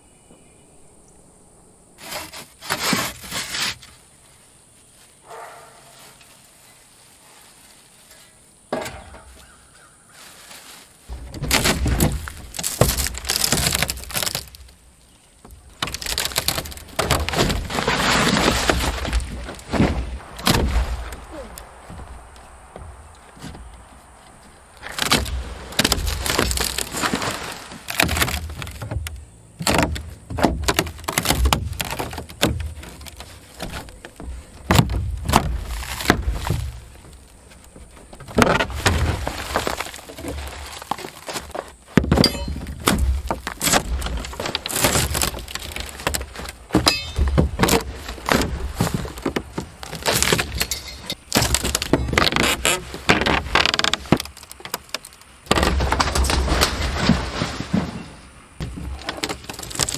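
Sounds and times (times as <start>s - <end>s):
plywood cracking and creaking: 2.0s - 4.0s, 8.0s - 59.9s.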